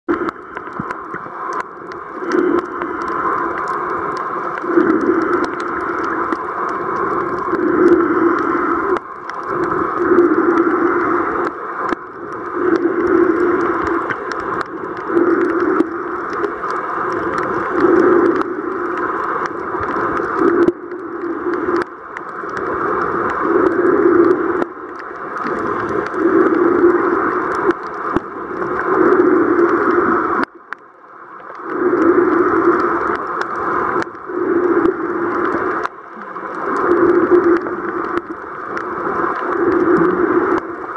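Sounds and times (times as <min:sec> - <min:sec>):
faint clicks: 0:00.1 - 0:40.9
underwater rushing water: 0:00.1 - 0:40.9.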